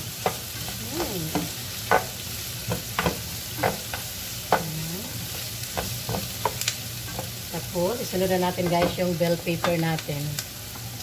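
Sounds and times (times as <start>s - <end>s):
vegetables sizzling in frying pan: 0.0s - 11.0s.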